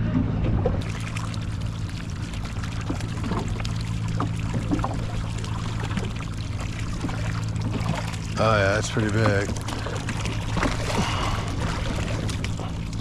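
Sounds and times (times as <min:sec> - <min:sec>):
low motor hum: 0:00.0 - 0:13.0
water splashing against boat: 0:00.0 - 0:13.0.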